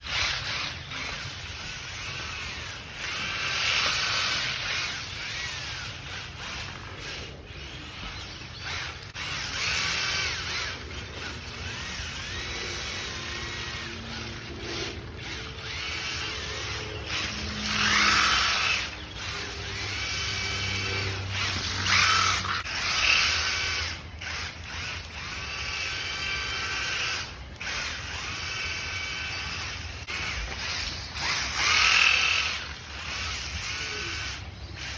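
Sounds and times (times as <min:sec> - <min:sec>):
toy car electric motor whining: 0:00.0 - 0:34.9.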